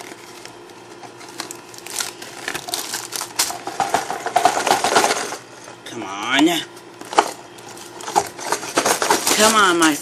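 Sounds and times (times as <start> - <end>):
plastic packaging crinkling: 0.0 - 5.5, 6.9 - 10.0.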